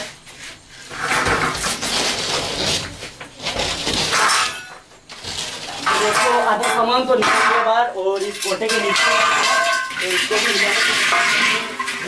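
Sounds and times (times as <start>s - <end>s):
household belongings clattering: 0.9s - 12.0s.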